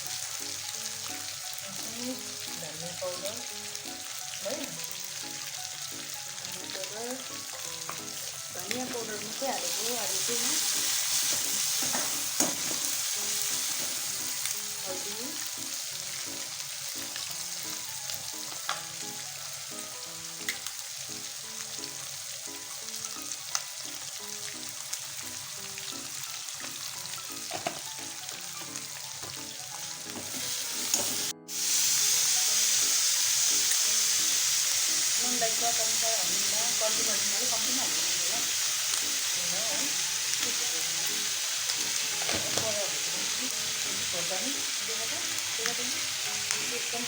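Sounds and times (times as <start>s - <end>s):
food sizzling in hot oil: 0.0s - 47.0s.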